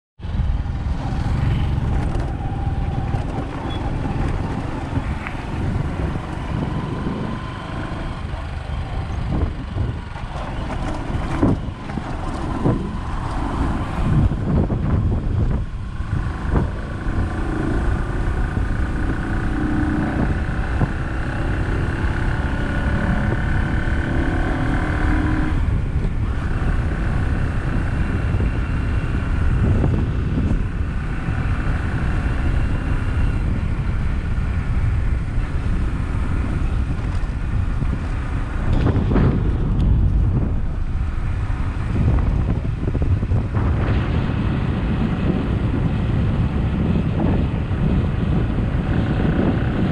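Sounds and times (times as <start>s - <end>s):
vehicle engine running: 0.2s - 49.9s
wind rush on microphone: 0.2s - 49.9s.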